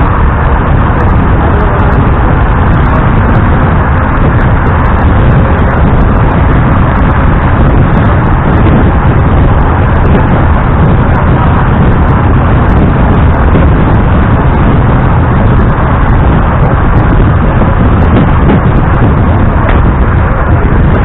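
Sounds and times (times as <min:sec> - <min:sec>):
bus travel noise: 0:00.0 - 0:21.0
wind buffeting microphone: 0:00.0 - 0:21.0.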